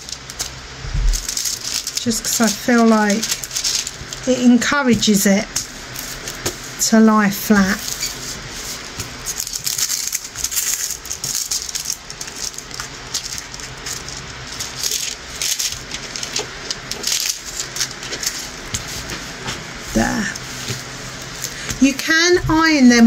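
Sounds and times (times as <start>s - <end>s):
plastic crinkling and rustling: 0.0s - 6.8s, 7.6s - 22.6s.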